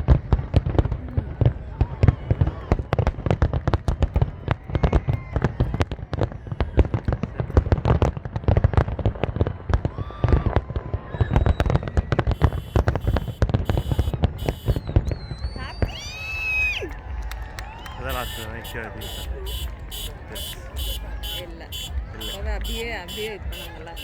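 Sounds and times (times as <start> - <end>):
fireworks booming and crackling: 0.0 - 24.0.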